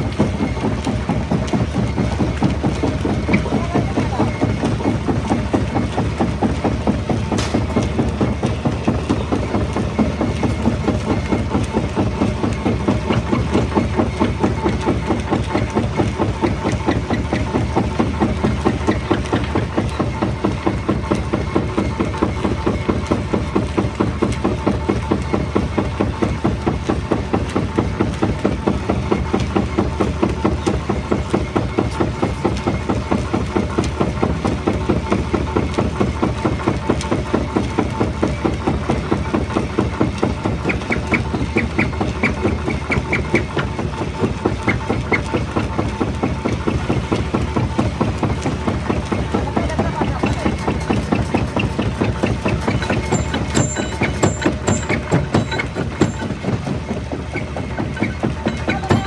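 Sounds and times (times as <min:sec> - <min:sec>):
rock crusher rhythmic pulse: 0:00.0 - 0:59.0.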